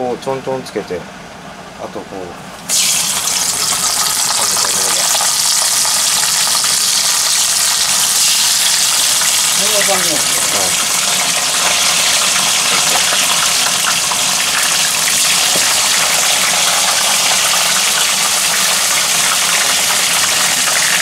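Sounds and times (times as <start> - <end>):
crab frying in hot oil: 2.6 - 21.0.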